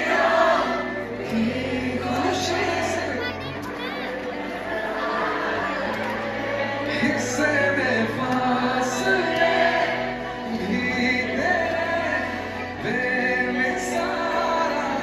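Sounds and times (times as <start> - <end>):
live band with singing: 0.0 - 15.0.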